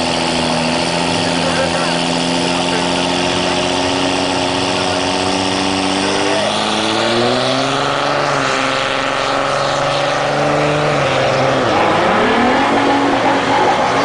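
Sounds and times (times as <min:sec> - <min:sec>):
diesel truck engine at full throttle: 0:00.0 - 0:14.0.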